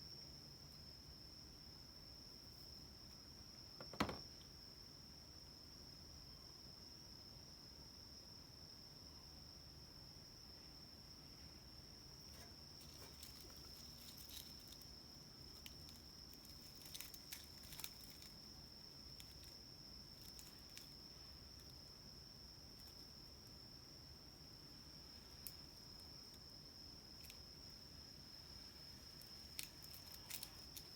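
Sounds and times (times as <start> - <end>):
faint high-pitched whine: 0.0 - 30.9.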